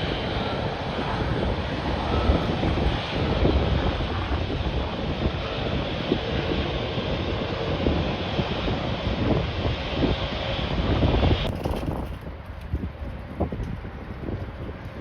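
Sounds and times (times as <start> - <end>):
aircraft engines rushing: 0.0 - 15.0
wind buffeting microphone: 0.0 - 15.0.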